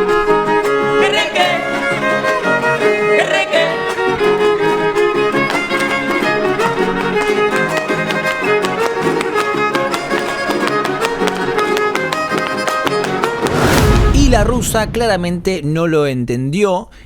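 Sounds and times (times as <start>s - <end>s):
fast fiddle melody: 0.0s - 14.0s.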